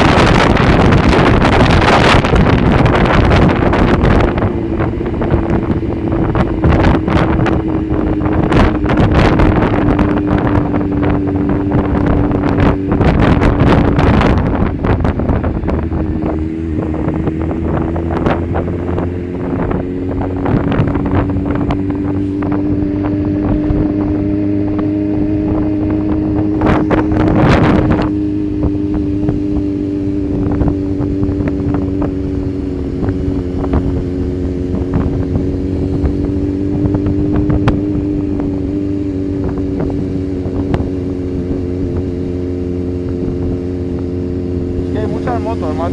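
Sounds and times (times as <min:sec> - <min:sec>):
motorcycle engine cruising: 0:00.0 - 0:45.9
rush of noise: 0:00.0 - 0:45.9
wind buffeting microphone: 0:00.0 - 0:45.9.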